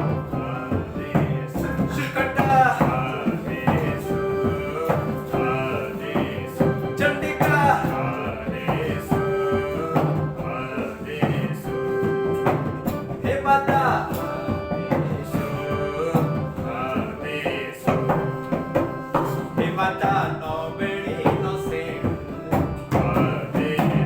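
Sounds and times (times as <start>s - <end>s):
hand drum rhythm: 0.0s - 24.0s
keyboard melody: 0.0s - 24.0s.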